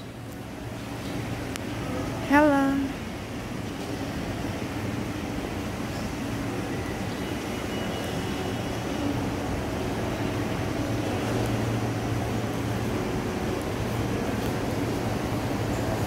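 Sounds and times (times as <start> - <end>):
low rumble of indoor concourse: 0.0 - 16.0.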